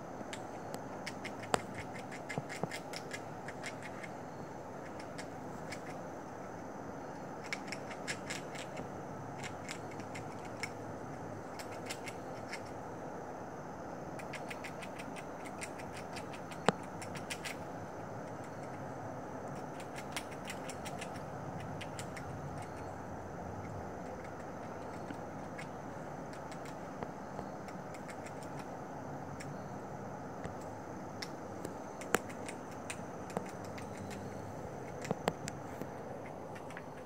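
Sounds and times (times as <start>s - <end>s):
background hum: 0.0s - 37.0s
squirrel gnawing food: 0.0s - 37.0s.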